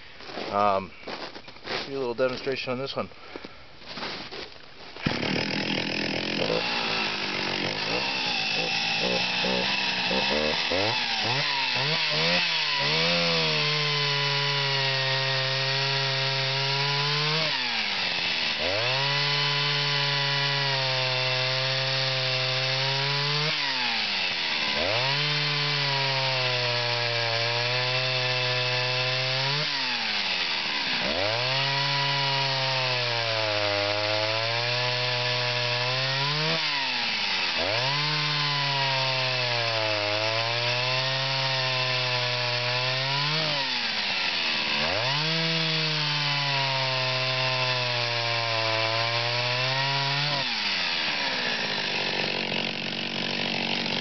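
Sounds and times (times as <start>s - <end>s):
chainsaw cutting log: 4.9s - 54.0s.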